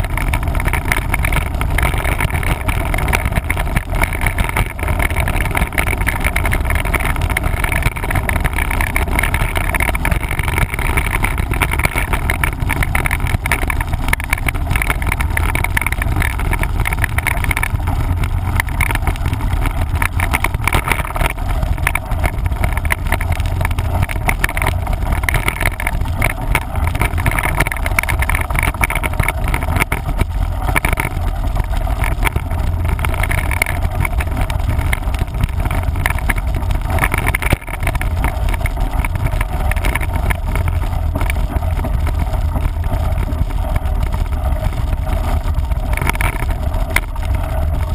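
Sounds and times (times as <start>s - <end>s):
bike clattering over rough trail: 0.0s - 47.9s
wind rumble on microphone: 0.0s - 47.9s.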